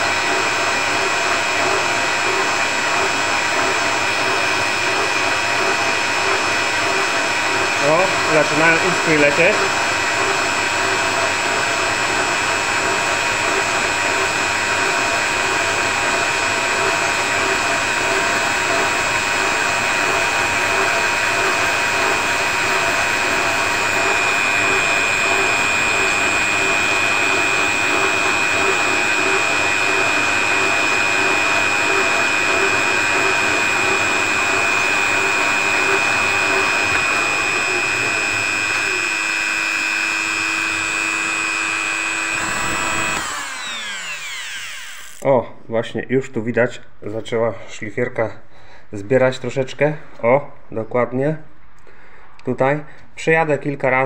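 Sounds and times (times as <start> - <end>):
rotary grinder whining: 0.0 - 45.3.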